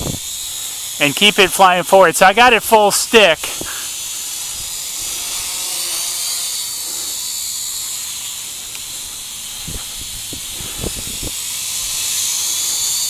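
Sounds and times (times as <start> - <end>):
toy drone propellers whirring: 0.0 - 13.0.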